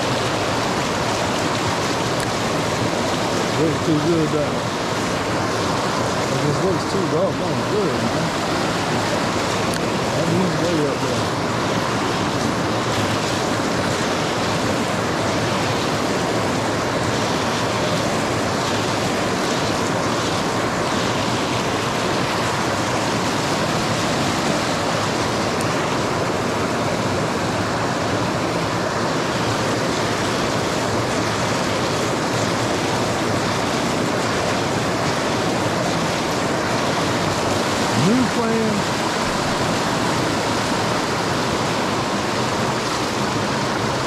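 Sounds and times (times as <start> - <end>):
creek water over rocks: 0.0 - 44.0.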